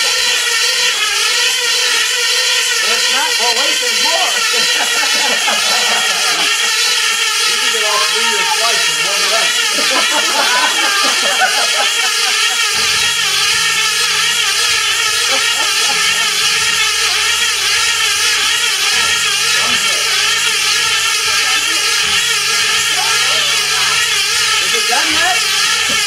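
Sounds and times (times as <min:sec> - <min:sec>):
model plane engine whine: 0:00.0 - 0:26.0.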